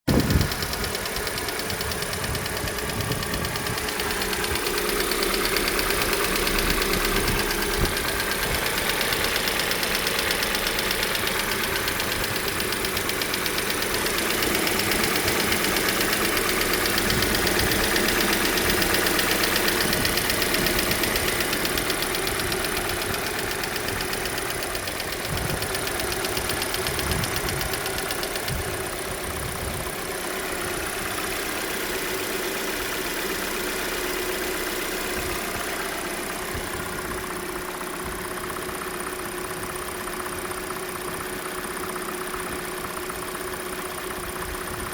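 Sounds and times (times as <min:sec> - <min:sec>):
car engine idling: 0:00.0 - 0:44.9
fast ticking engine knock: 0:00.1 - 0:44.9.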